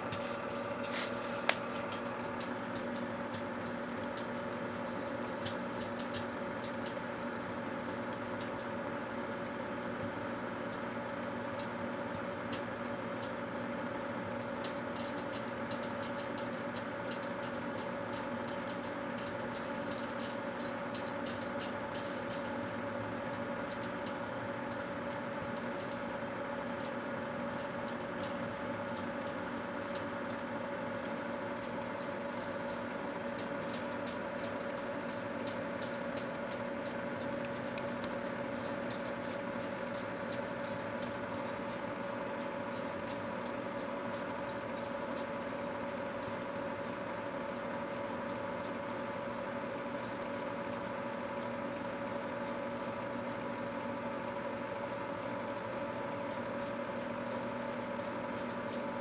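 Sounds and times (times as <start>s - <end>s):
microwave oven humming: 0.0s - 59.0s
steel wool crackling and popping: 0.0s - 59.0s.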